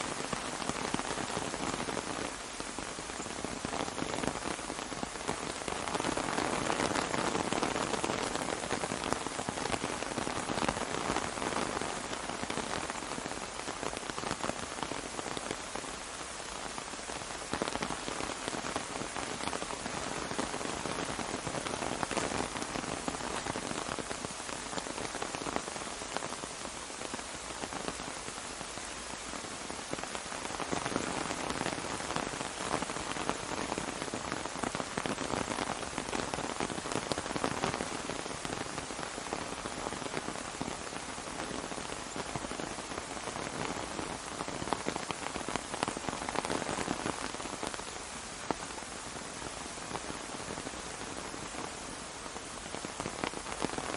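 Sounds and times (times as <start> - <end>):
rain on an umbrella: 0.0 - 53.9.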